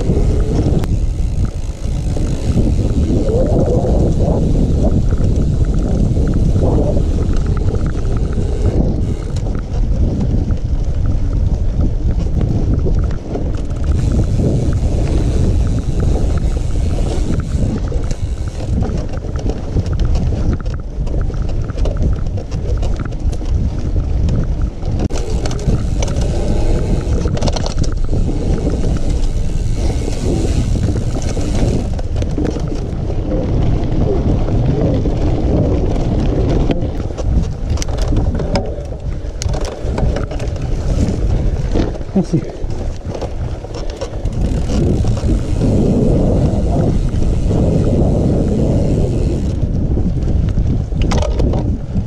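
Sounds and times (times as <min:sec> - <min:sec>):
bike rattles and knocks: 0:00.0 - 0:52.0
wind rushing over microphone: 0:00.0 - 0:52.0.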